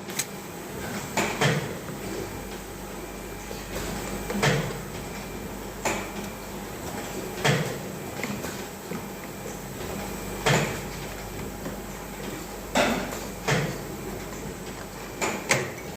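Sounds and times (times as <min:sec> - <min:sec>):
machine humming: 0:00.0 - 0:15.9.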